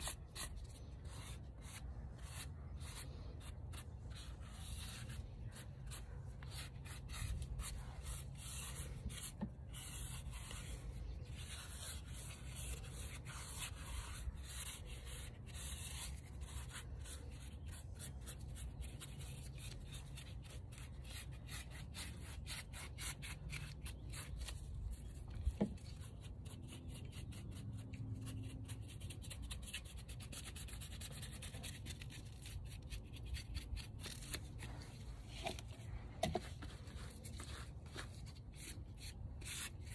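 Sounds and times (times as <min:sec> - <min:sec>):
paintbrush scrubbing concrete: 0:00.0 - 0:34.9.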